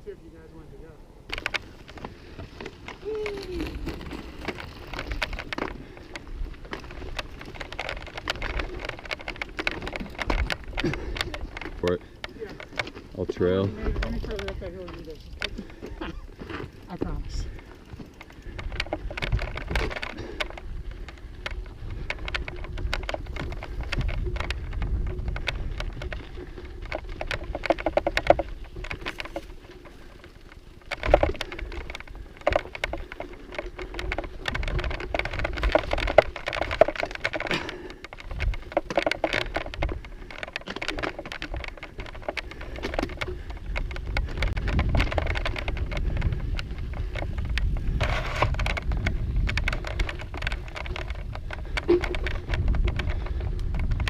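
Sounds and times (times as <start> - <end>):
bike rattling: 0.0 - 54.0
tyres crunching on gravel: 1.3 - 54.0.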